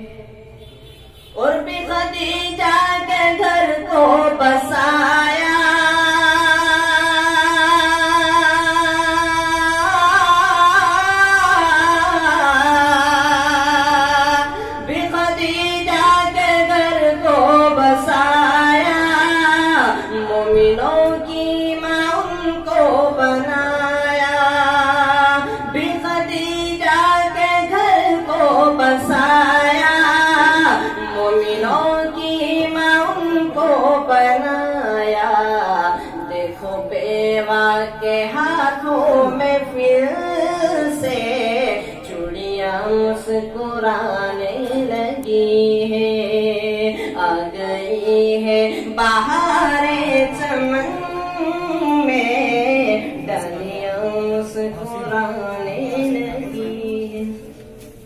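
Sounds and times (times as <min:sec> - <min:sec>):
person singing unaccompanied: 0:00.0 - 0:00.6, 0:01.3 - 0:58.0.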